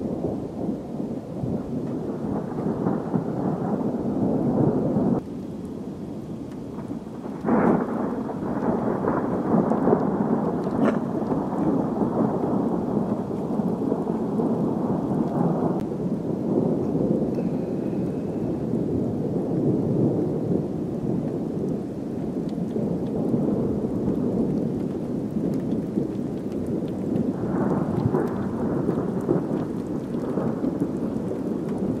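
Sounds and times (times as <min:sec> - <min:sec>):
rain falling: 0:00.0 - 0:32.0
thunder rumbling: 0:00.0 - 0:32.0.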